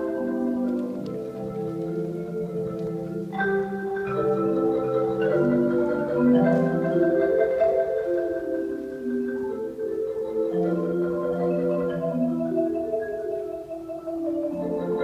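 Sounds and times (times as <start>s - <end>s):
marimba playing chords: 0.0s - 15.0s.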